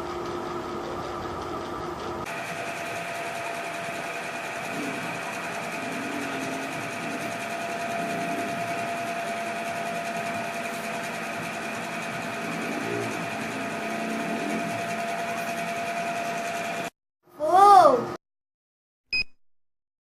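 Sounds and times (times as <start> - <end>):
high whine: 0.0 - 16.9
mechanical whirring hum: 0.0 - 16.9.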